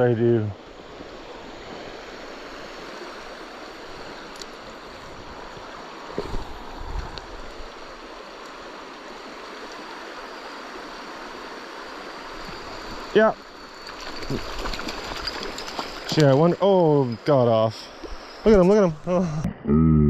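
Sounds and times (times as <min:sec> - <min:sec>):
creek water flowing: 0:00.0 - 0:19.5.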